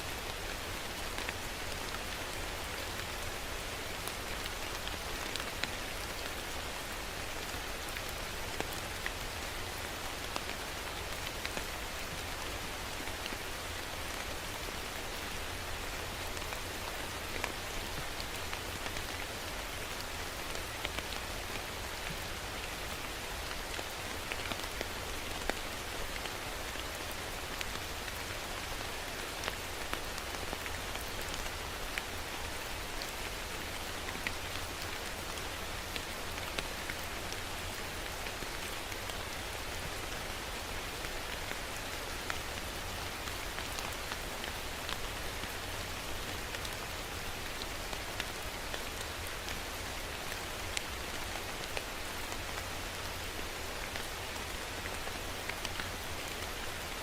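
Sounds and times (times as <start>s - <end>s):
steady rain with ticking drops: 0.0s - 57.0s.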